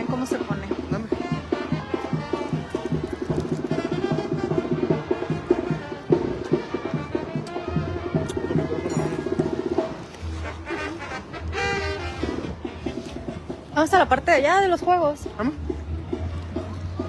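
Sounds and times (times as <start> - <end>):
fast percussion rhythm: 0.0 - 10.2, 12.2 - 17.0
live brass band music: 0.0 - 15.4.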